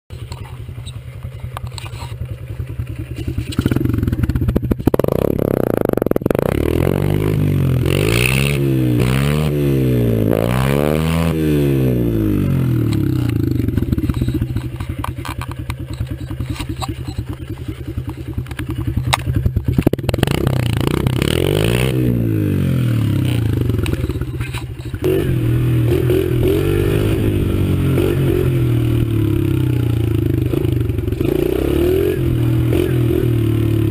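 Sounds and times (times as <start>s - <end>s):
dirt bike engine revving: 0.5s - 33.9s.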